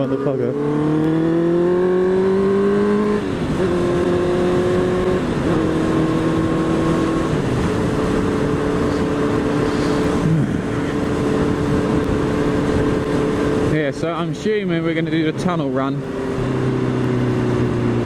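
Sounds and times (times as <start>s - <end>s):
motorcycle engine changing gears: 0.0s - 18.0s
wind and road noise: 0.0s - 18.0s.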